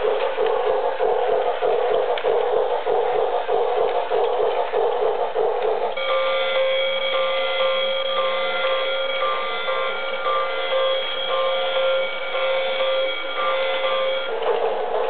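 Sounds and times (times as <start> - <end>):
toy train chugging: 0.0 - 15.0.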